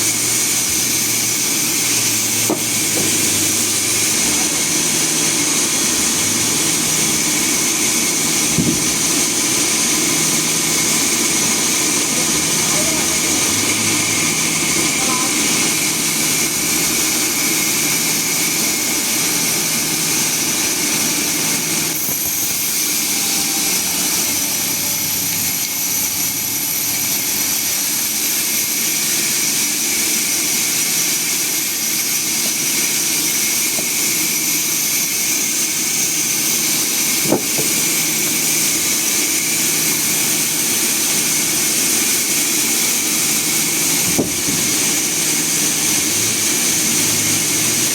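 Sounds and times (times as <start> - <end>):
sawmill machinery whine: 0.0 - 47.9.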